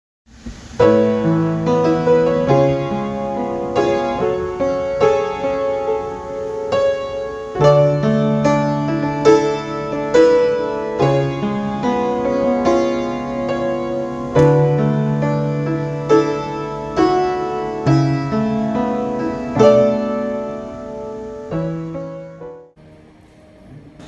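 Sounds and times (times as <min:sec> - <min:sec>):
piano playing slow chords: 0:00.6 - 0:24.0.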